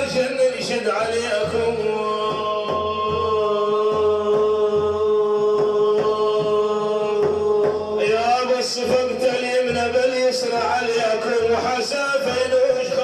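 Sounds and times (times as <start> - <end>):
person singing religious chant: 0.0 - 13.0
steady drum beat: 0.0 - 13.0.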